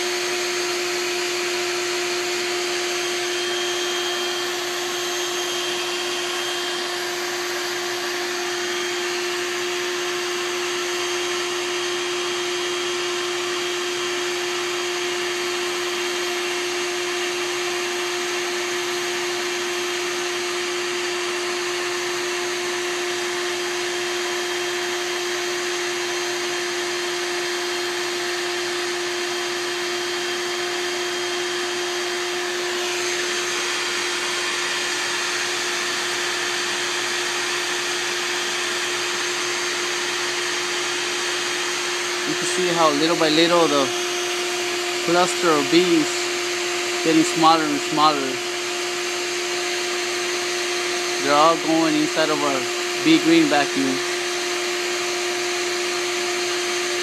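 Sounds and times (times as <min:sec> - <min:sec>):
vacuum motor hum: 0:00.0 - 0:57.0.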